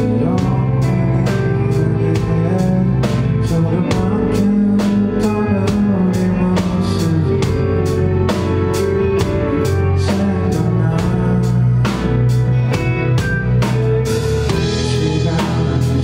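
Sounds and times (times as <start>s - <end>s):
drum kit steady beat: 0.0s - 16.0s
rock band playing: 0.0s - 16.0s.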